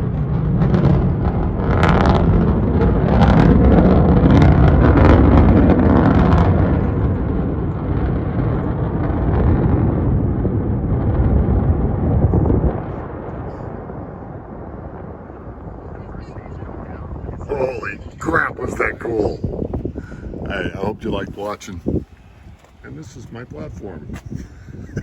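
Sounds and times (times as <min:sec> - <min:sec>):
distant rocket rumbling: 0:00.0 - 0:25.0.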